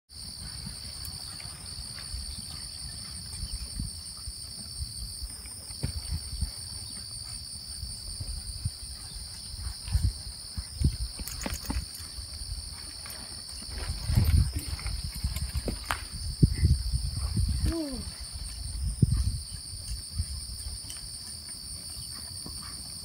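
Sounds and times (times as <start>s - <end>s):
high insect chorus buzzing: 0.1s - 23.0s.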